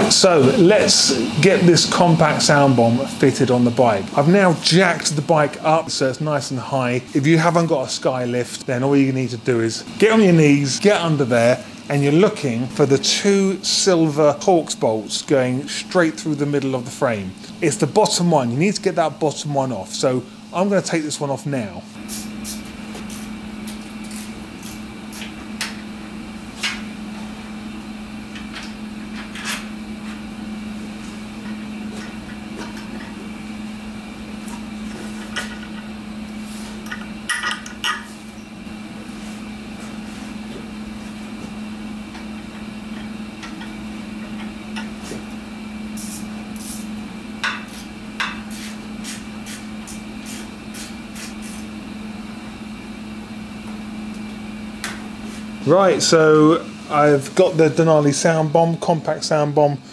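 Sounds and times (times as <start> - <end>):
heater humming: 0.0 - 59.9.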